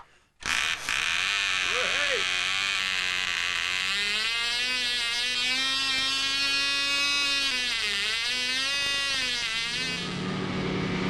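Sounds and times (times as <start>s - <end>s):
model aircraft engine buzzing: 0.4s - 11.0s.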